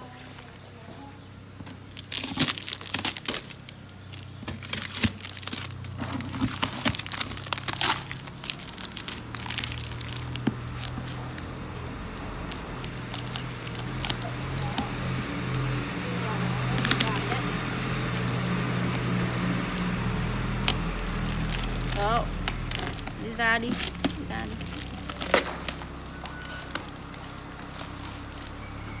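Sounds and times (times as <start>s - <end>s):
low steady hum: 0.0s - 29.0s
plastic wrap and tape crinkling: 1.8s - 29.0s.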